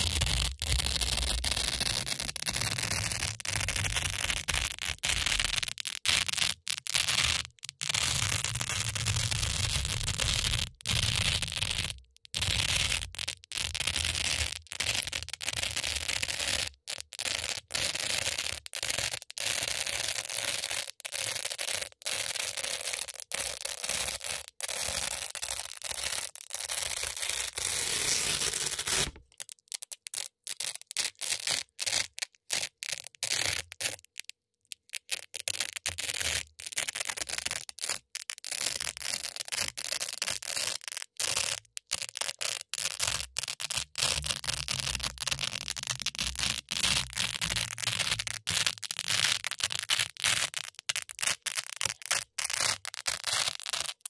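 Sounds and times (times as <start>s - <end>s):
velcro strips crackling: 0.0s - 34.2s, 34.9s - 54.0s.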